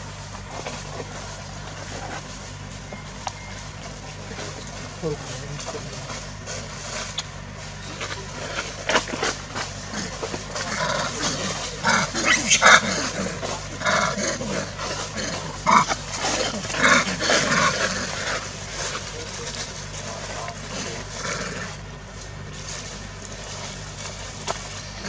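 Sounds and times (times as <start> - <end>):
monkeys barking calls: 0.0 - 22.4.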